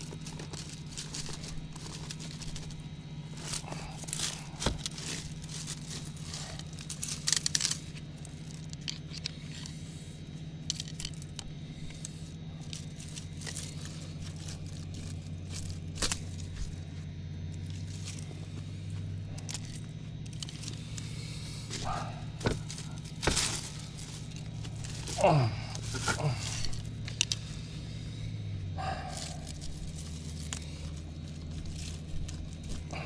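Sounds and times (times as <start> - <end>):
weeds rustling and tearing: 0.0 - 28.2, 28.8 - 33.0
low hum: 0.0 - 33.0.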